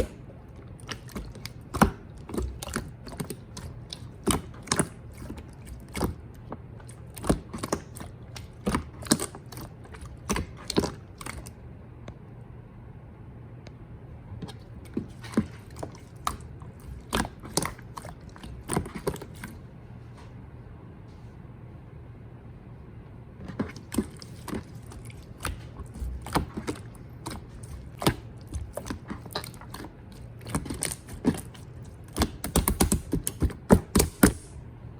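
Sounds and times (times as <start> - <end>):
slime squished by hand: 0.0 - 11.6, 14.4 - 19.6, 23.4 - 34.6.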